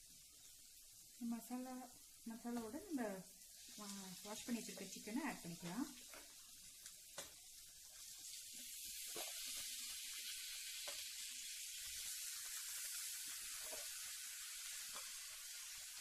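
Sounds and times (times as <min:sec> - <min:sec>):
chicken sizzling in hot pan: 0:00.0 - 0:16.0.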